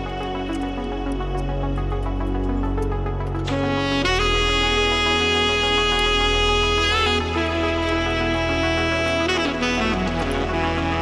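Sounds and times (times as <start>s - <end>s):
background music melody: 0.0s - 11.0s.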